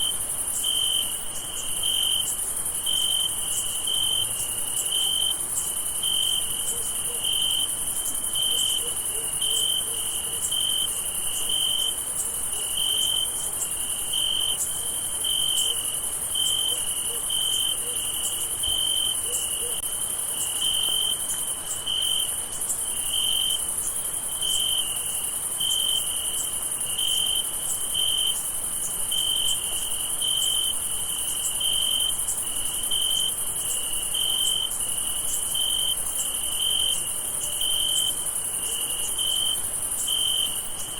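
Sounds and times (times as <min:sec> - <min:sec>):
crickets trilling: 0:00.0 - 0:40.9
lower cricket chirp: 0:00.0 - 0:40.9.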